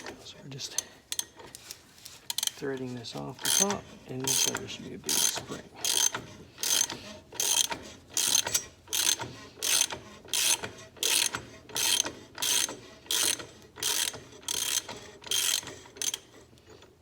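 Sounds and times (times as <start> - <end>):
ratchet wrench clicking: 0.8 - 1.7, 2.3 - 2.6, 3.4 - 16.3.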